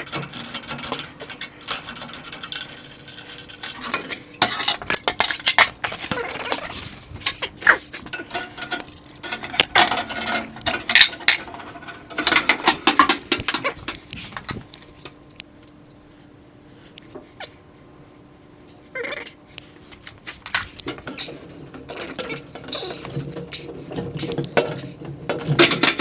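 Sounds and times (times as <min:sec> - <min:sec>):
metal tools clinking and rattling: 0:00.0 - 0:15.8, 0:20.5 - 0:26.0
faint steady hum: 0:00.0 - 0:26.0.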